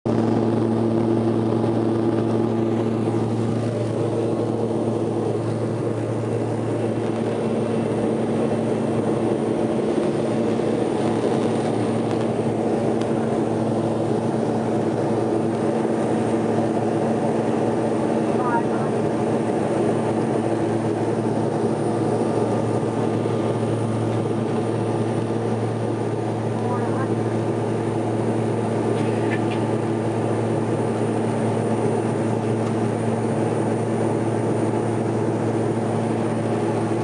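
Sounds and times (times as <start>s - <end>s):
turboprop engine drone in cabin: 0.1s - 37.0s.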